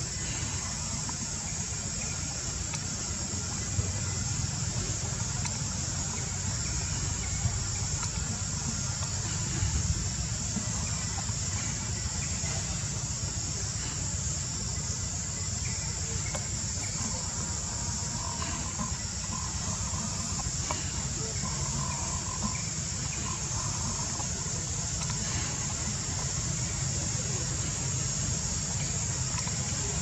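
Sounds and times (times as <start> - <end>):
faint chirps: 0.0 - 30.0
high-pitched insect drone: 0.0 - 30.0.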